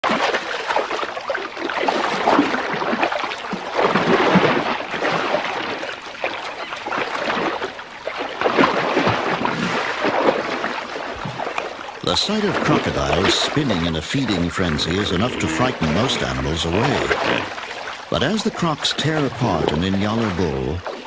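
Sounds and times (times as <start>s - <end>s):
water splashing and churning: 0.0s - 21.0s.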